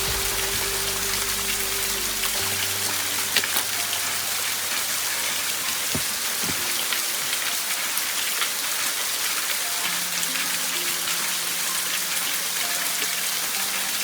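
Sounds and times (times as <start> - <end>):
falling water hiss: 0.0 - 14.0.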